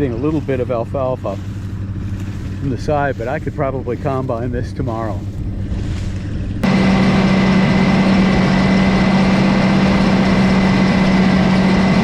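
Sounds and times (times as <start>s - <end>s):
swather engine hum: 0.0s - 12.0s.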